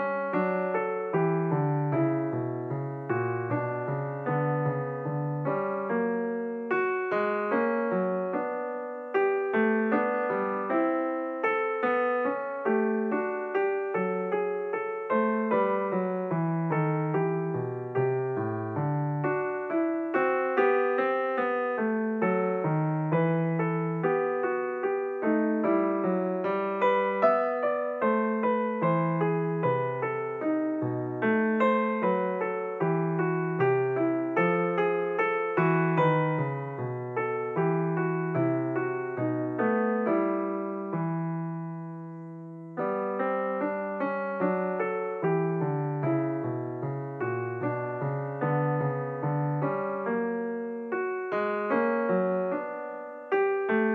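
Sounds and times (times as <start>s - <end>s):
slow solo piano piece: 0.0s - 53.9s.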